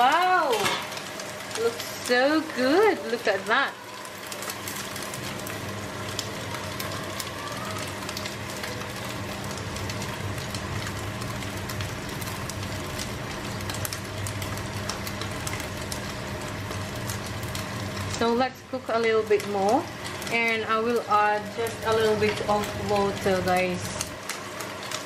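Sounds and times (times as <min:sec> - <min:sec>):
food sizzling in frying pans: 0:00.0 - 0:25.0.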